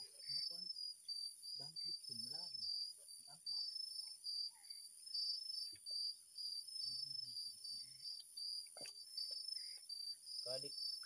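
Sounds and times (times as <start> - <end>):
crickets chirping: 0.0 - 11.0
high insect whine: 0.0 - 11.0.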